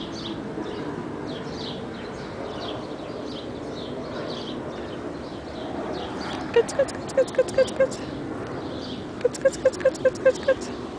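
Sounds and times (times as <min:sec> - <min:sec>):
steady background hum: 0:00.0 - 0:10.9
birds chirping: 0:00.1 - 0:10.7.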